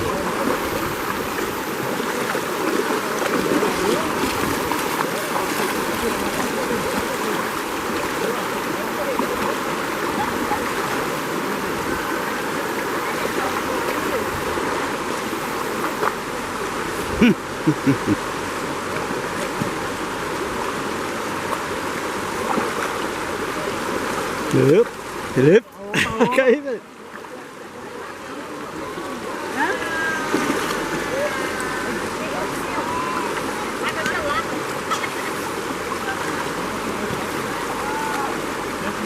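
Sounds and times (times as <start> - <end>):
water rushing over rocks: 0.0 - 39.0.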